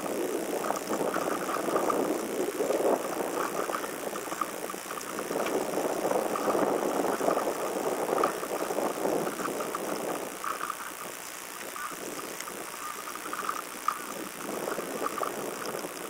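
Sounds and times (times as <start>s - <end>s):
bicycle road noise: 0.0s - 16.0s
faint ticks: 0.0s - 16.0s.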